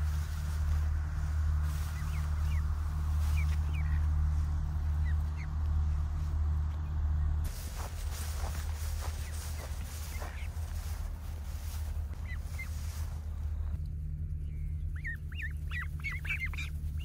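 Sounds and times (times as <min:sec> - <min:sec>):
ducklings peeping: 0:00.0 - 0:17.0
steady low rumble: 0:00.0 - 0:17.0.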